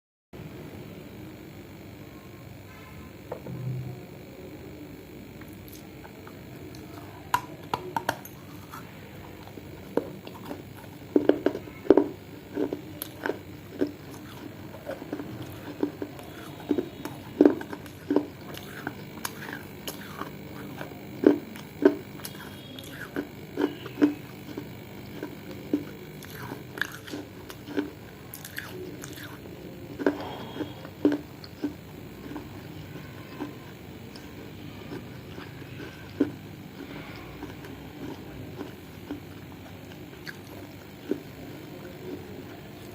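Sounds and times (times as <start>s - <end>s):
chewing crunchy clay: 5.3s - 42.9s.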